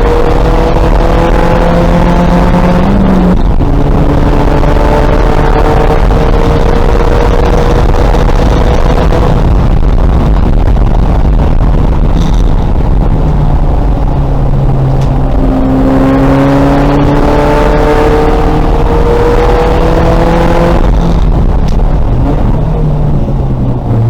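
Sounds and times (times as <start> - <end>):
race car engine accelerating: 0.0 - 24.0
road and wind noise: 0.0 - 24.0.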